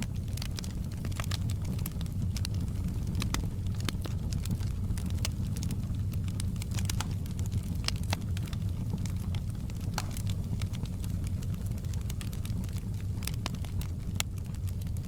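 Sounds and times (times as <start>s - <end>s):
low rumble of burning fire: 0.0s - 15.0s.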